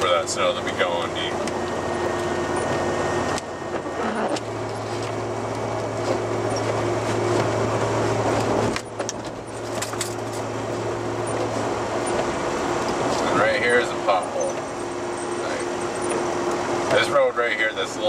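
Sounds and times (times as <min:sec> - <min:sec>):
truck engine drone: 0:00.0 - 0:18.0.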